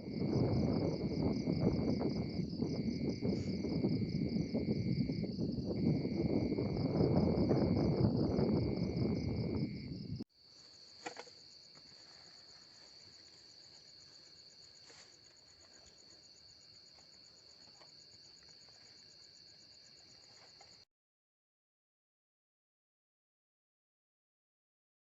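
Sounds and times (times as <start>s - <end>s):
crickets trilling: 0.0s - 20.8s.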